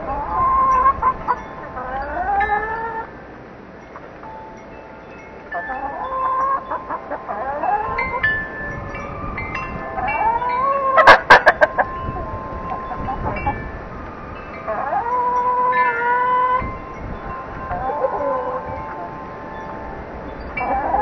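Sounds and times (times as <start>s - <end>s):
chickens calling: 0.0s - 21.0s
wind chimes ringing: 0.0s - 21.0s.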